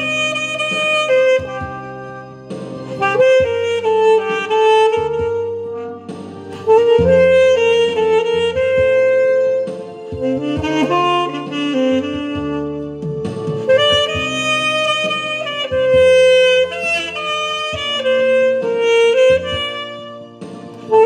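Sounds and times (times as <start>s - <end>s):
instrumental backing track: 0.0s - 21.0s
saxophone melody: 0.0s - 21.0s.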